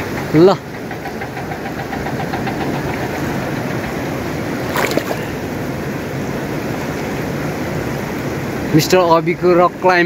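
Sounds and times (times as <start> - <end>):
fast-flowing river water rushing: 0.0 - 10.0.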